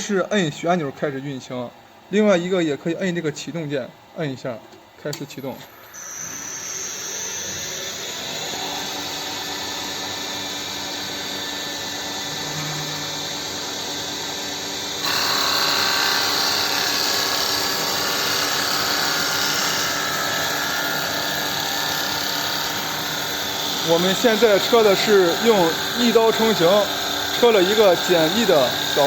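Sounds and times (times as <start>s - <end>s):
lathe motors whining: 5.3s - 29.0s
tool cutting spinning wood: 5.4s - 29.0s.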